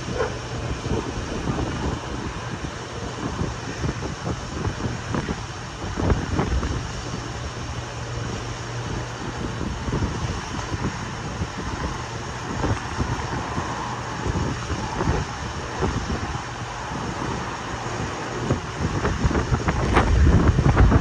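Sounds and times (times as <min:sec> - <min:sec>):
steady rumble: 0:00.0 - 0:21.0
wind buffeting microphone: 0:00.0 - 0:21.0.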